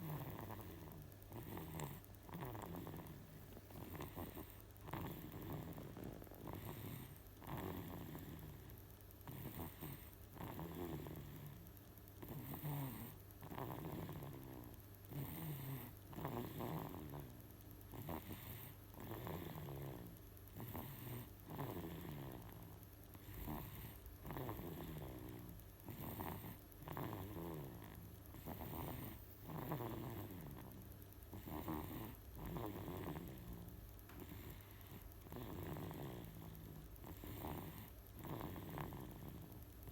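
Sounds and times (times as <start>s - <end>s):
baby snoring: 0.0s - 11.6s, 12.2s - 22.6s, 23.2s - 33.6s, 34.2s - 39.5s.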